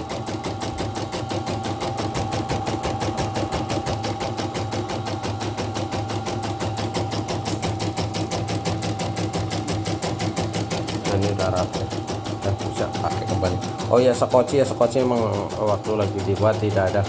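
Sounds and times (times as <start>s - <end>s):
embroidery machine needle strokes: 0.0s - 17.0s.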